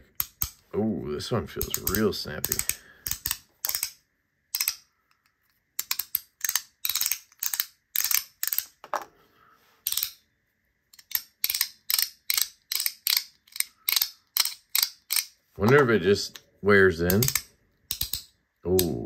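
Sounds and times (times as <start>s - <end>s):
sharp plastic clicks: 0.1s - 0.7s, 1.6s - 8.8s, 10.9s - 19.0s.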